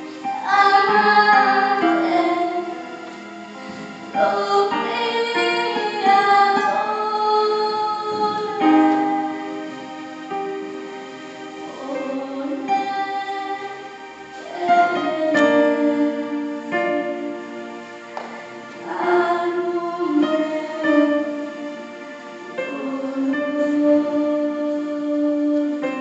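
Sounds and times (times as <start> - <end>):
keyboard accompaniment: 0.0 - 26.0.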